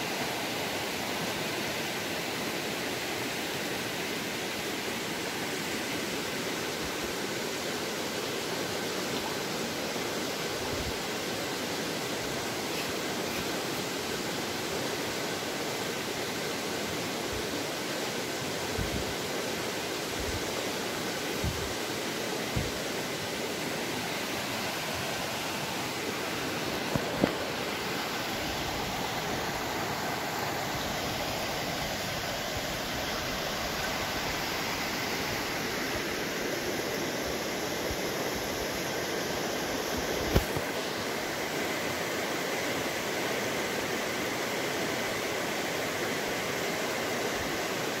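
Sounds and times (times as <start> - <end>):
rain falling on river and leaves: 0.0 - 48.0
river water rushing: 0.0 - 48.0.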